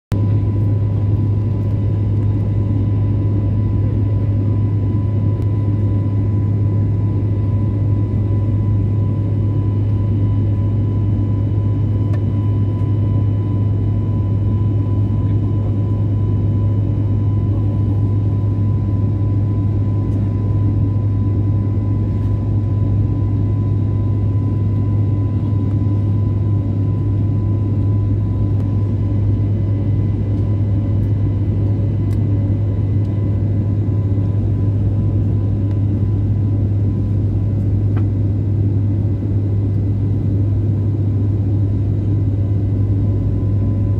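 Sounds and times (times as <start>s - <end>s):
airliner cabin engine drone: 0.1s - 43.9s.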